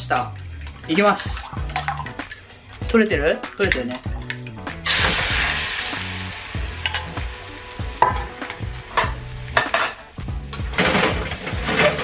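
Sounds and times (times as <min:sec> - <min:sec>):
eggs sizzling: 0:00.0 - 0:12.0.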